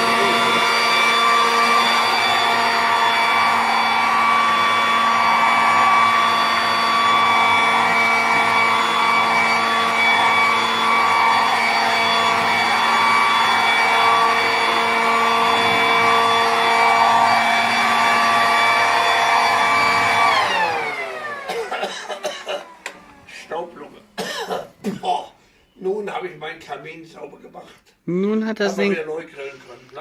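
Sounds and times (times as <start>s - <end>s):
electric leaf blower whining: 0.0s - 24.2s.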